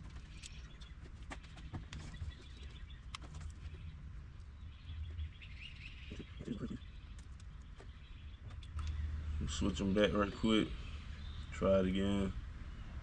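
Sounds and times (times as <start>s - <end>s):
faint bird chirps: 0.2s - 13.0s.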